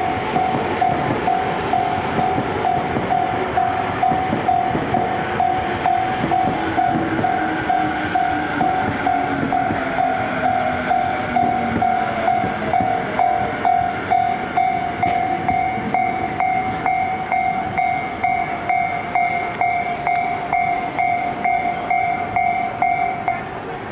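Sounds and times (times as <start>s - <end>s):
level crossing warning bell: 0.0s - 23.7s
electric train running: 0.0s - 23.9s.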